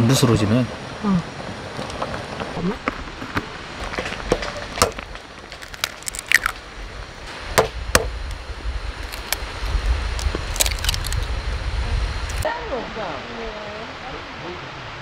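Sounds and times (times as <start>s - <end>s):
low rumble: 0.4s - 15.0s.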